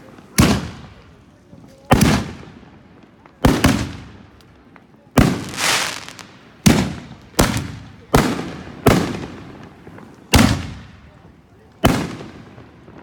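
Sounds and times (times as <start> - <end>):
fireworks bursting with rumble: 0.0 - 13.0.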